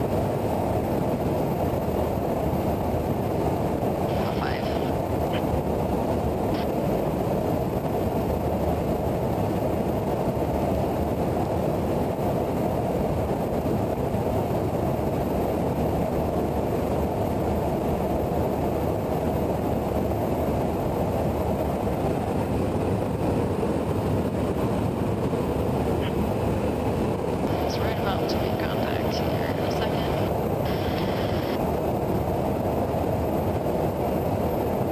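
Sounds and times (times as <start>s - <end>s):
aircraft airflow and engine rush: 0.0s - 34.9s.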